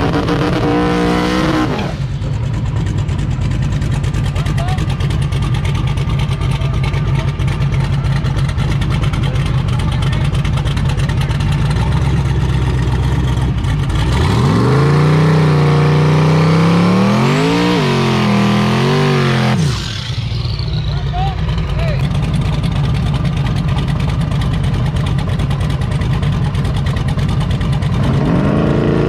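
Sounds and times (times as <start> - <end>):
drag car engine idling and revving: 0.0 - 29.0.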